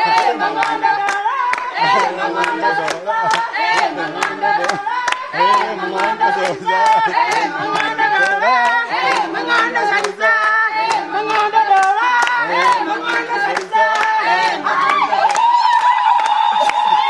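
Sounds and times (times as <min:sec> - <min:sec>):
group singing: 0:00.0 - 0:16.2
rhythmic hand clapping: 0:00.0 - 0:17.0.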